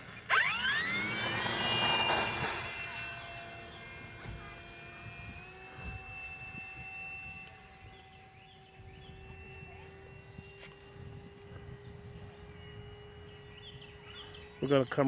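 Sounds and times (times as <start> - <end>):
model plane electric motor whine: 0.0 - 15.0.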